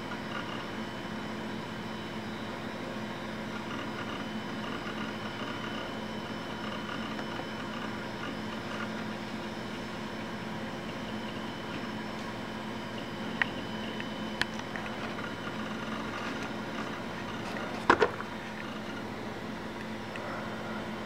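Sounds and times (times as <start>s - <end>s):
computer cooling fan hum: 0.0s - 21.0s
constant electronic tones: 0.0s - 21.0s
spinning disk drive: 0.0s - 21.0s.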